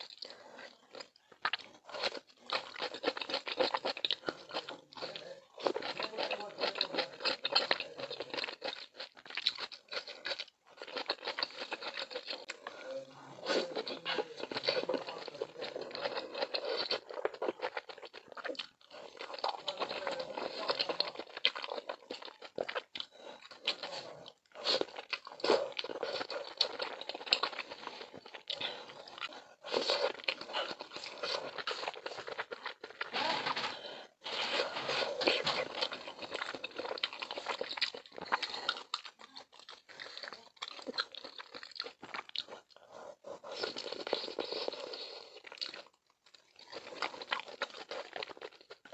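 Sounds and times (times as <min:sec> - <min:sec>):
close chewing and biting food: 0:00.0 - 0:48.9.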